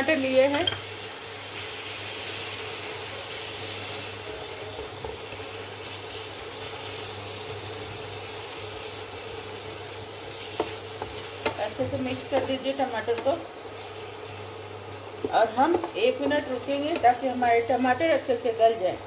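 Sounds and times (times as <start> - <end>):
spatula turning food: 0.0 - 18.5
tomatoes sizzling in frying pan: 0.0 - 19.0.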